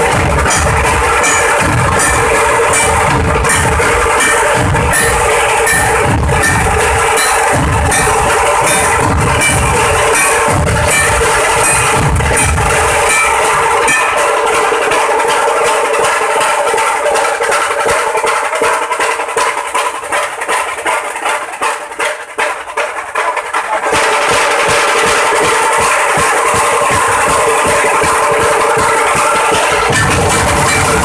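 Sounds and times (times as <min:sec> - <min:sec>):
deep drum beats: 0:00.0 - 0:31.0
rapid sharp drum strokes: 0:00.0 - 0:31.0.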